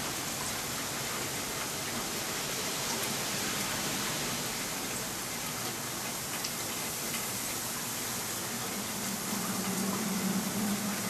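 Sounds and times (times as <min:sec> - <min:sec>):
hiss of falling precipitation: 0:00.0 - 0:11.0.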